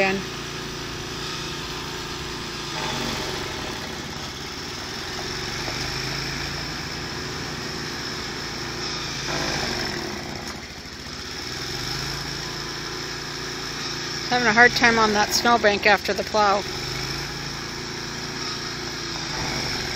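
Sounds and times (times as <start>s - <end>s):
engine running with low hum: 0.0s - 19.9s.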